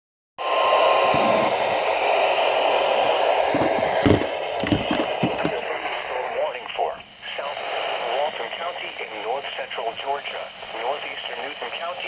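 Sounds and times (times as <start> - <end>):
radio static hiss: 1.1 - 12.0.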